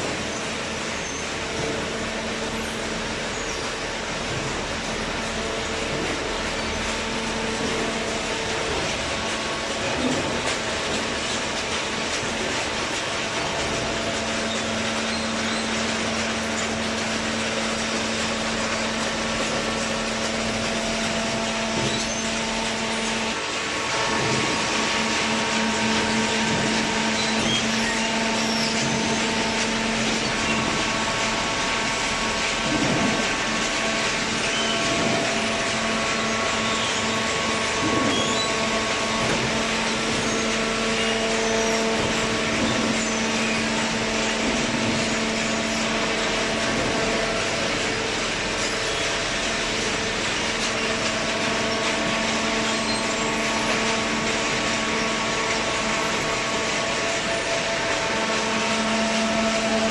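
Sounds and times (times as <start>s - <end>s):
hydraulic baler humming: 0.0s - 59.9s.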